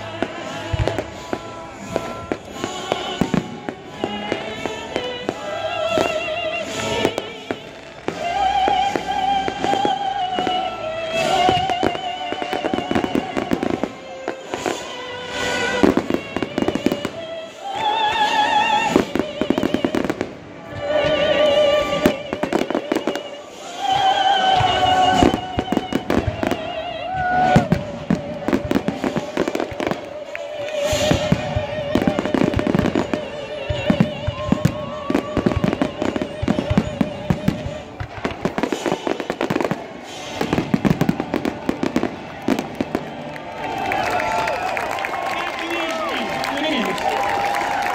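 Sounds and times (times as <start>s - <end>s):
live classical music: 0.0s - 45.2s
fireworks bursting and crackling: 0.0s - 47.9s.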